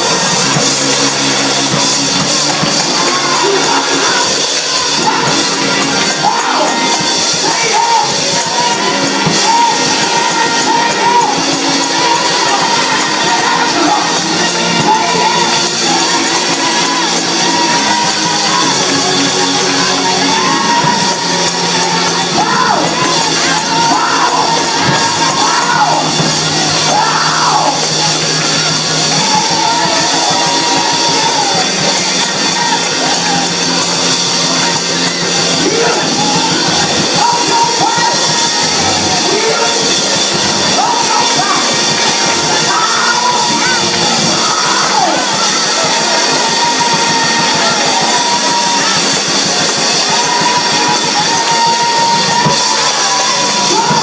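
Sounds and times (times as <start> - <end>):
loud live music: 0.0 - 54.0
voices singing and shouting: 0.0 - 54.0.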